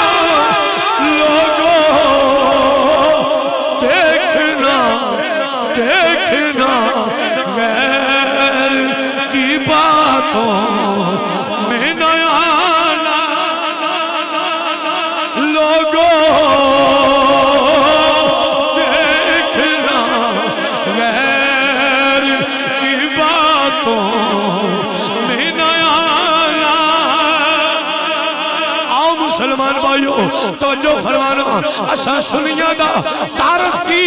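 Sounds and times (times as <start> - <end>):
man singing into a microphone: 0.0 - 34.0.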